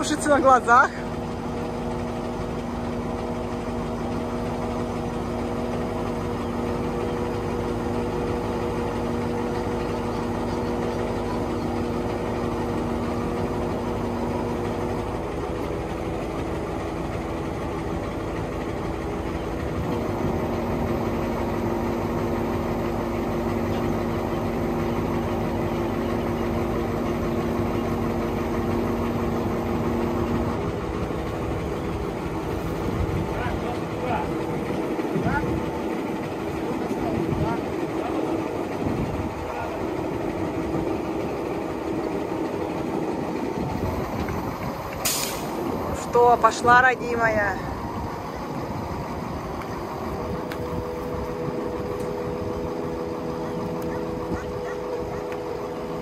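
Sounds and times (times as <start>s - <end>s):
crane engine running: 0.0s - 56.0s.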